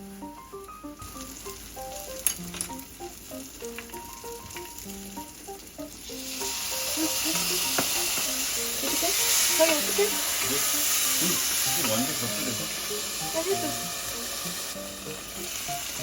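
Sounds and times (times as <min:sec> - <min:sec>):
food sizzling: 0:00.0 - 0:16.0
light background music: 0:00.0 - 0:16.0.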